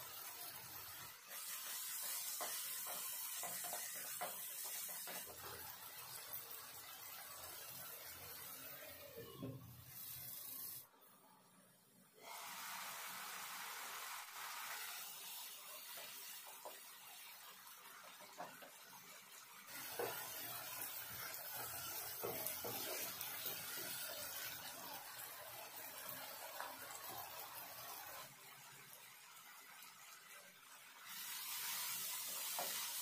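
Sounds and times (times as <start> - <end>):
masala sizzling in oil: 0.0 - 11.0, 12.2 - 33.0.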